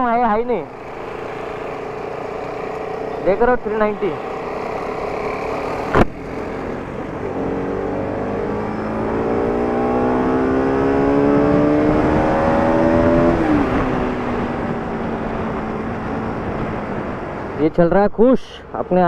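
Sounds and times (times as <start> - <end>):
motorcycle engine revving: 0.0 - 17.6
wind and road noise: 0.0 - 19.0.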